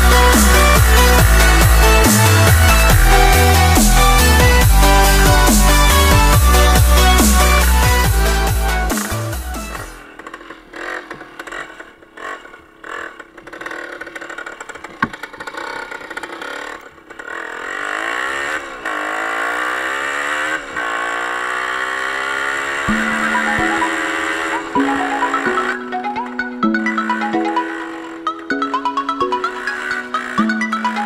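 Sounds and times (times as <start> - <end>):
small motorcycle engine revving: 0.0 - 31.0.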